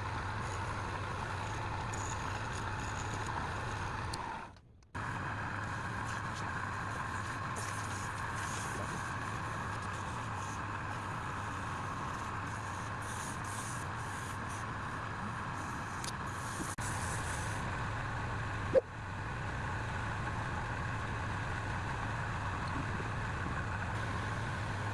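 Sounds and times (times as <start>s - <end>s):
wood lathe humming: 0.0s - 24.9s.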